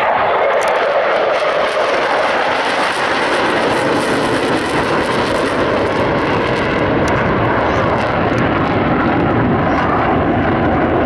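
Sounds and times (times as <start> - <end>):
jet engines flying past: 0.0 - 11.0.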